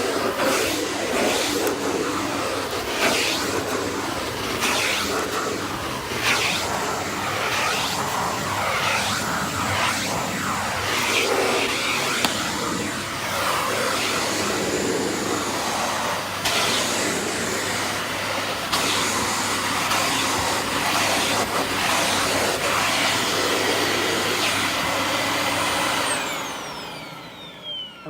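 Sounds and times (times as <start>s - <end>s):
vacuum cleaner running: 0.0s - 28.0s
vacuum motor spinning down: 0.0s - 28.0s.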